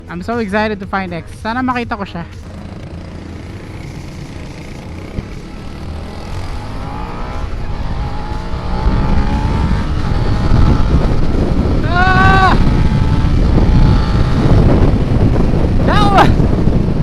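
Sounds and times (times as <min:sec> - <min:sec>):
motorcycle engine accelerating: 0:02.3 - 0:17.0.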